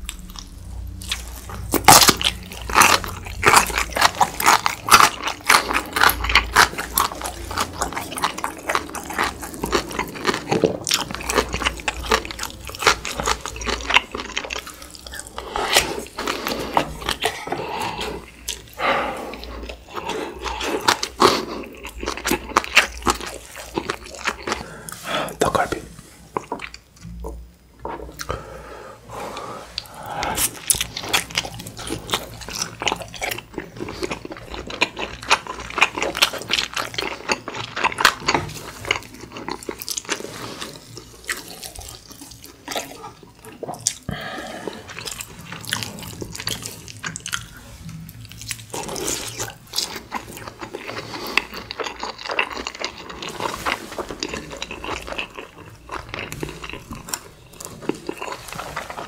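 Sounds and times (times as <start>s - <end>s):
wet chewing and smacking: 0.0s - 25.7s, 29.8s - 59.0s.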